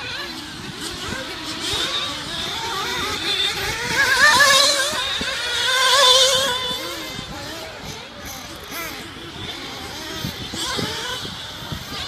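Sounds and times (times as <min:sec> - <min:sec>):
toy truck motor revving: 0:00.0 - 0:12.0.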